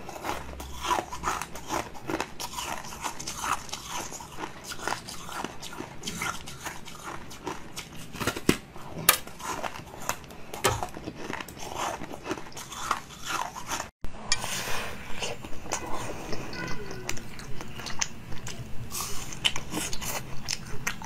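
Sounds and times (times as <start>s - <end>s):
crunching and chewing brittle food: 0.0s - 13.9s, 15.2s - 21.0s.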